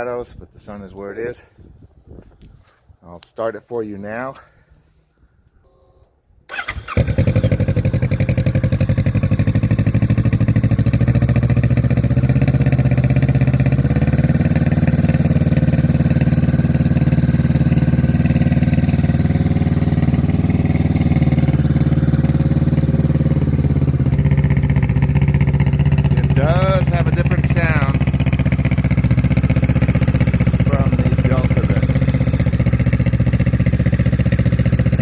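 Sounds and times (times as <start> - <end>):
motorcycle engine starting and idling: 5.7 - 35.0.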